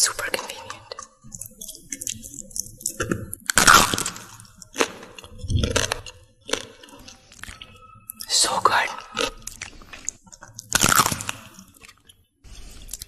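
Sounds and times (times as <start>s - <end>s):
person chewing crunchy food: 0.4s - 13.0s.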